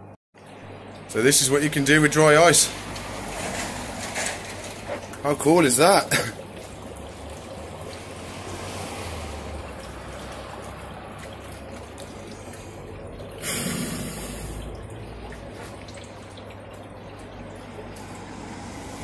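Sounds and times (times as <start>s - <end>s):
dry ice bubbling in water: 0.4s - 19.0s.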